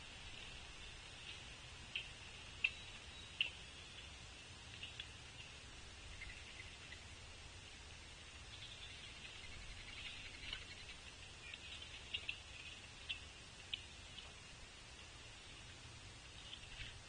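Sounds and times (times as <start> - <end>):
bird chips and ticks: 0.2 - 7.2, 8.4 - 15.7, 16.3 - 17.0.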